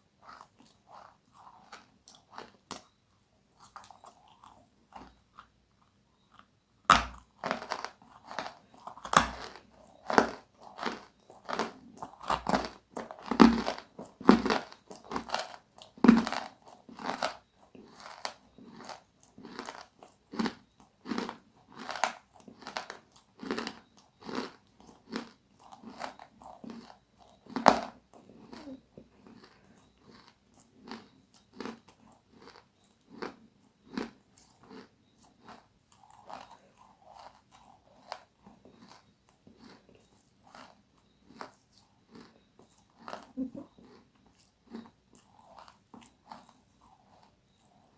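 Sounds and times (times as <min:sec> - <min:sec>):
chewing crunchy food: 0:00.0 - 0:47.9.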